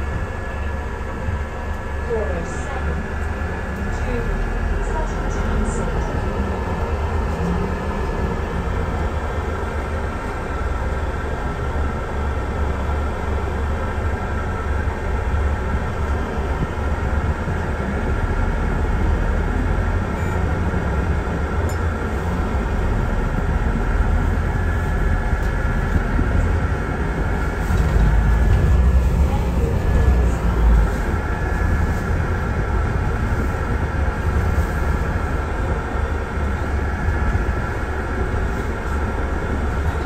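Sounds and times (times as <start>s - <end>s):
bus engine rumble: 0.0s - 40.0s.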